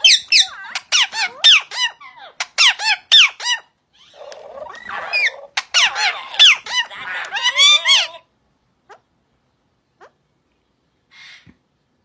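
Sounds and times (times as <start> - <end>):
parrot raspy squawk: 0.0 - 9.1, 10.0 - 10.2, 11.1 - 11.5
parrot chirping: 0.0 - 10.3.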